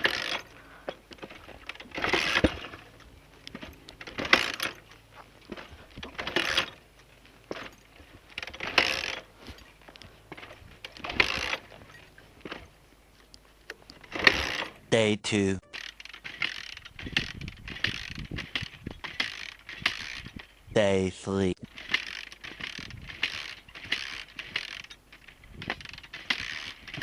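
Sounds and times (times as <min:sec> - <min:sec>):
dirt bike engine kick-start clatter: 0:00.0 - 0:06.9, 0:07.5 - 0:12.8, 0:13.9 - 0:14.9, 0:15.7 - 0:20.6, 0:21.6 - 0:27.0.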